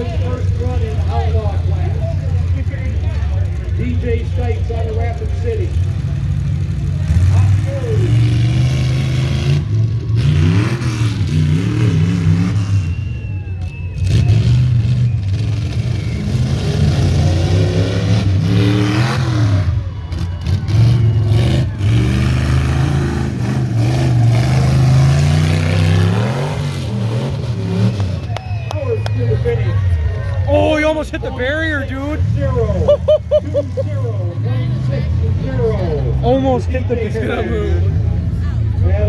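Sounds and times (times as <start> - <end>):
truck engine revving hard: 0.0 - 39.0.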